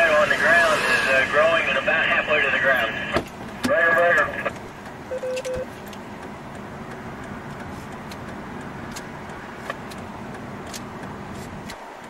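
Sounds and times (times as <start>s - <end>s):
highway car traffic: 0.0s - 12.0s.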